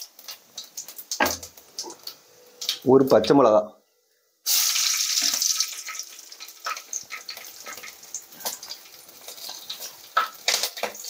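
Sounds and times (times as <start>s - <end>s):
oil crackles and pops: 0.0s - 3.3s, 4.4s - 11.0s
chilli sizzling in hot oil: 0.0s - 3.4s, 4.4s - 11.0s.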